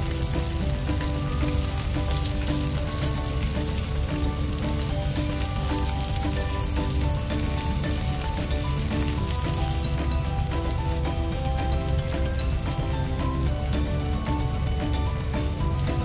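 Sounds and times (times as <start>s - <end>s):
background music: 0.0s - 16.0s
shrimp sizzling in a frying pan: 0.0s - 16.0s.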